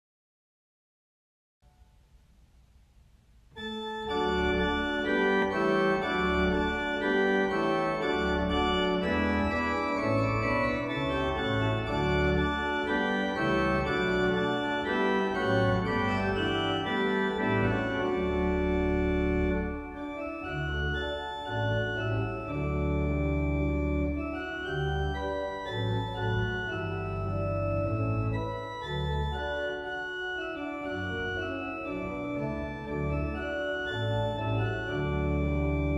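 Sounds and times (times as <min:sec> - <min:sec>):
organ music: 0:03.5 - 0:35.9.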